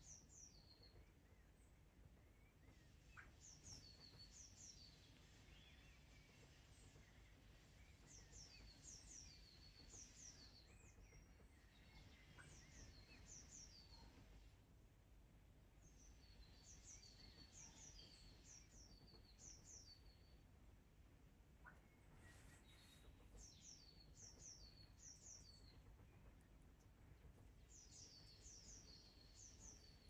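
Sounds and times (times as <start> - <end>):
small bird chirping: 0.0 - 14.4, 15.7 - 20.6, 21.5 - 30.0
low outdoor background hum: 0.0 - 30.0.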